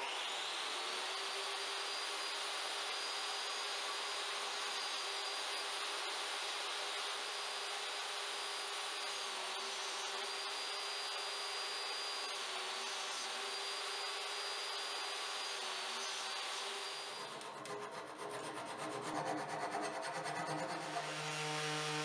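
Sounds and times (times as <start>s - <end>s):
table saw running: 0.0s - 22.0s.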